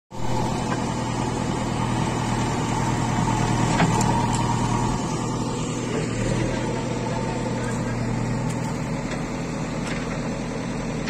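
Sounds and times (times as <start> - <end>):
diesel engine humming: 0.1 - 11.0.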